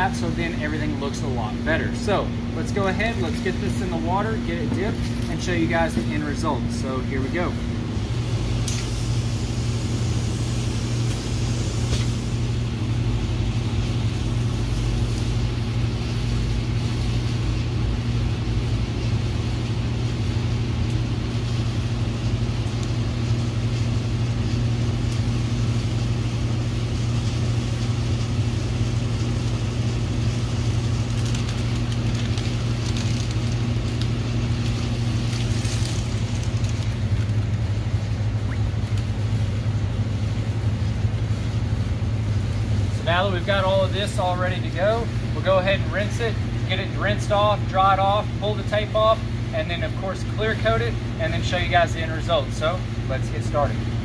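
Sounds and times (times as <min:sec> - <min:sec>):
constant hiss: 0:00.0 - 0:54.0
low machine hum: 0:00.0 - 0:54.0.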